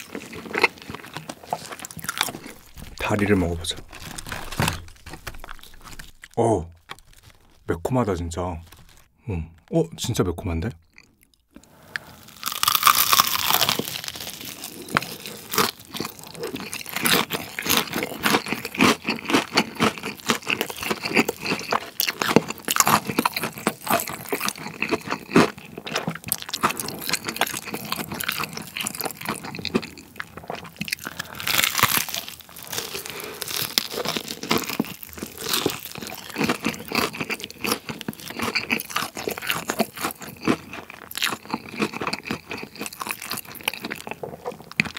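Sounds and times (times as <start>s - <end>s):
wet chewing: 0.0s - 7.7s, 8.6s - 9.1s, 10.9s - 44.9s
crunchy bites: 0.0s - 9.7s, 10.8s - 44.9s.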